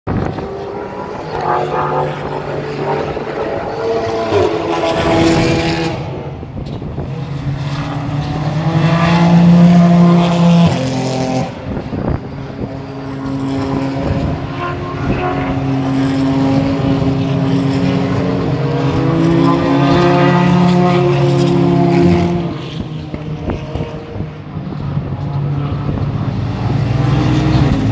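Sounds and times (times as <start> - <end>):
racing cars passing at speed: 0.1 - 27.9.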